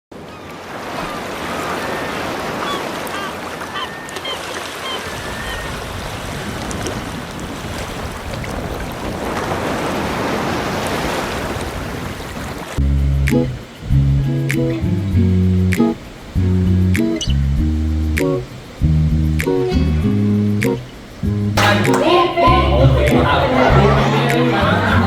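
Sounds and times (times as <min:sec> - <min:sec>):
sea surf washing ashore: 0:00.2 - 0:25.0.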